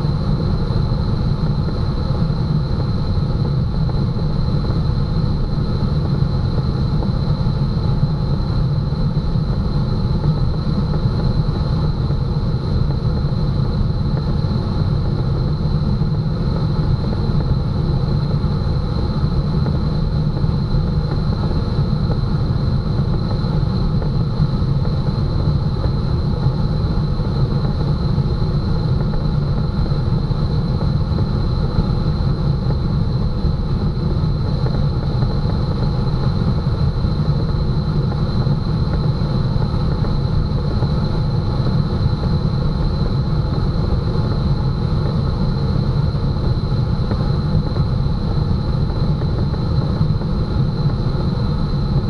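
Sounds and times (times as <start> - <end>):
rush of air over glider: 0.0 - 52.0.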